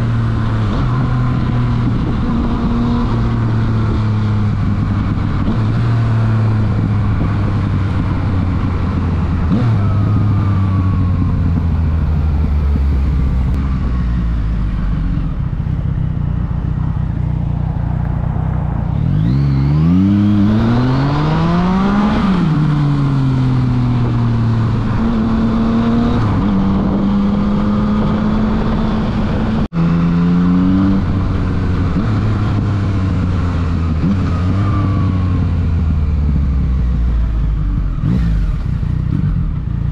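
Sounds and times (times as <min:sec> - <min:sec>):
wind rush: 0:00.0 - 0:35.8
motorcycle engine revving: 0:00.0 - 0:39.9.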